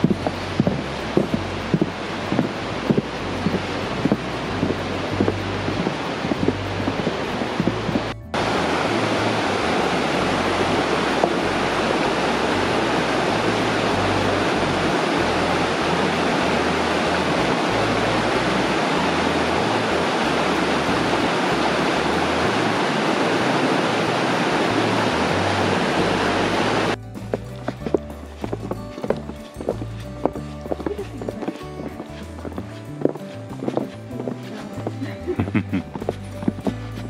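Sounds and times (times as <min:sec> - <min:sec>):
river rushing over boulders: 0:00.0 - 0:37.0.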